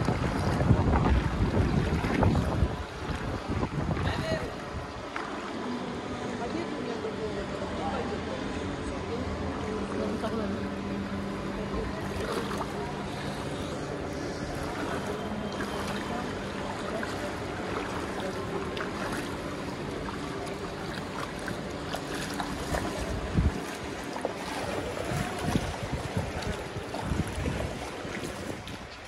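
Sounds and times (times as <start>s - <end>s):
water sloshing around wading legs: 0.0s - 7.3s, 9.4s - 29.0s
low hum: 0.0s - 29.0s.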